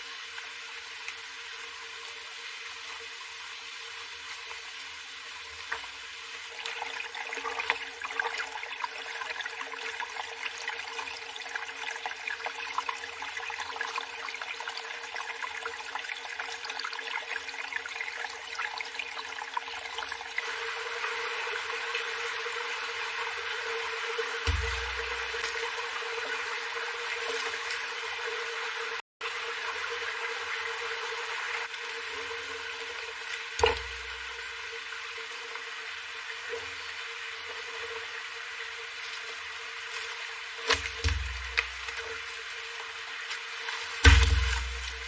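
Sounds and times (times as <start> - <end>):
water running and splashing: 0.0 - 45.0.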